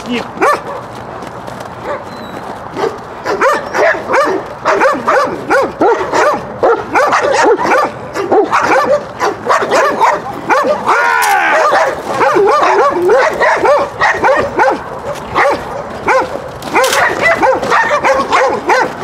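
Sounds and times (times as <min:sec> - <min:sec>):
dog barking rapidly: 0:00.3 - 0:01.0, 0:01.8 - 0:02.1, 0:02.7 - 0:19.0.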